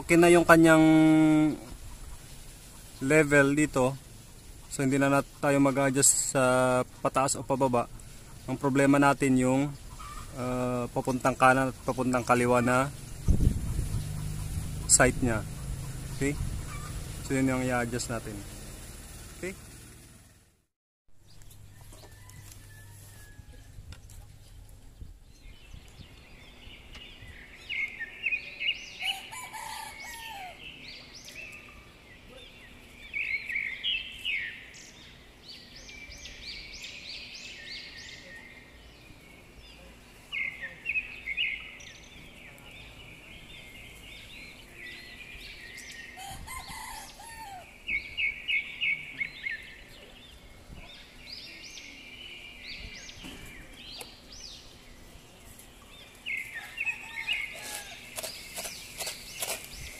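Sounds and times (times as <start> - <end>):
birds chirping: 0.0 - 20.4, 21.2 - 59.9.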